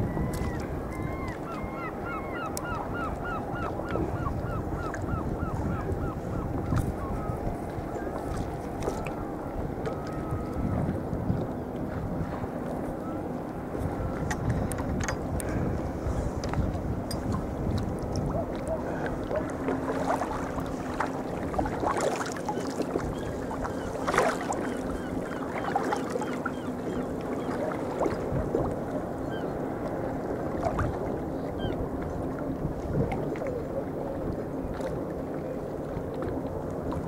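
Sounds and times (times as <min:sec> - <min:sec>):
water splashing and lapping: 0:00.0 - 0:37.0
paddle splashes: 0:02.6 - 0:12.9, 0:13.6 - 0:37.0.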